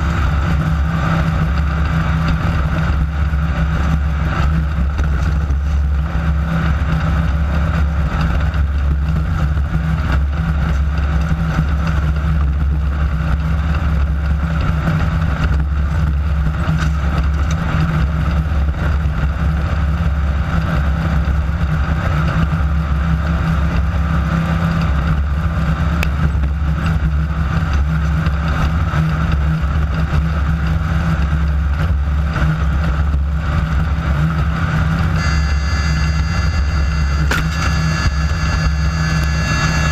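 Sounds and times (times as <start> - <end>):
buggy engine droning: 0.0 - 39.9
low chassis rumble: 0.0 - 39.9.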